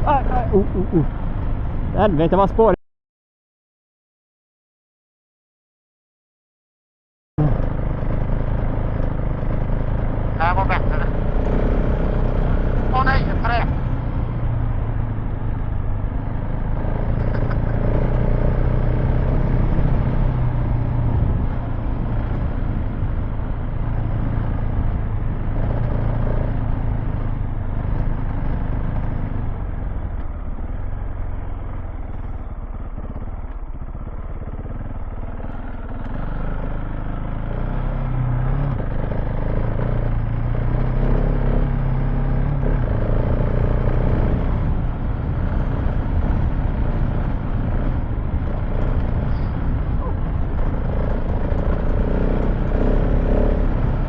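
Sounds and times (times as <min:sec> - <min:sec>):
motorcycle engine revving: 0:00.0 - 0:02.7, 0:07.4 - 0:54.0.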